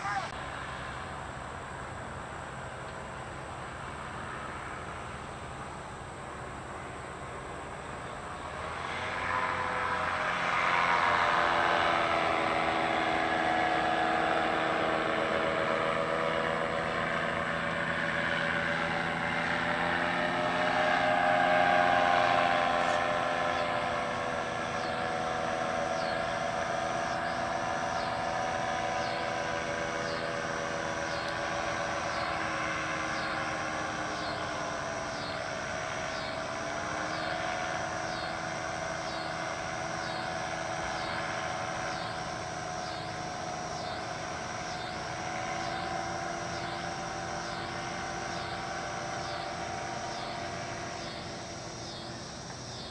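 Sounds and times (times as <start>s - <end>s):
paramotor engine droning: 0.0s - 52.9s.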